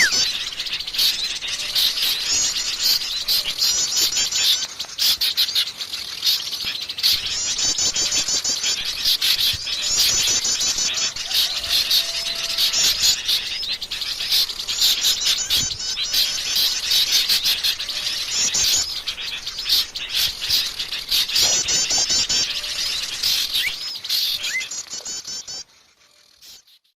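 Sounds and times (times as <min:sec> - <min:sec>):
songbirds chirping and twittering: 0:00.0 - 0:26.9.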